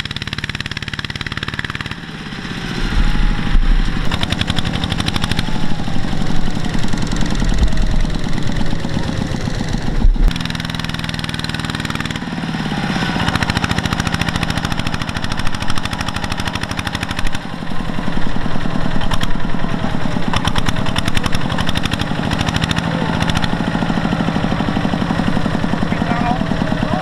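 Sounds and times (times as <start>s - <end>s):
diesel engine chugging under load: 0.0s - 27.0s.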